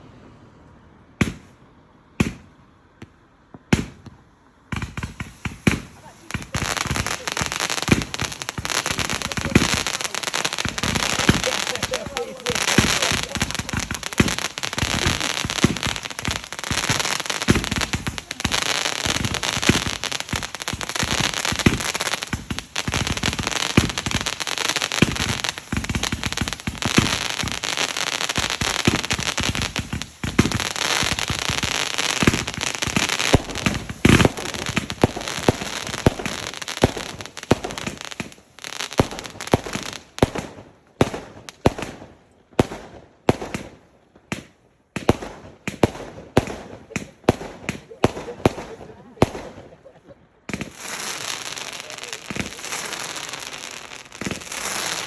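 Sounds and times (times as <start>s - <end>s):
fireworks crackling and banging: 1.2s - 55.0s.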